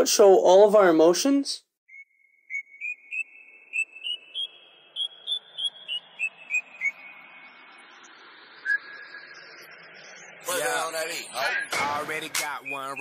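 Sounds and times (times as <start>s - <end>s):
whistle-like synth chirps: 1.9s - 13.0s.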